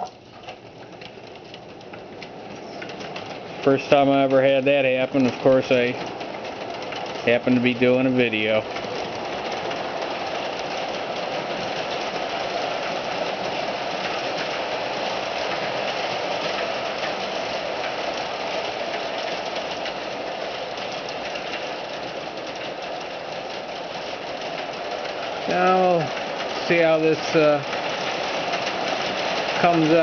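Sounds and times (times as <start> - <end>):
wheels clicking over track: 0.0 - 30.0.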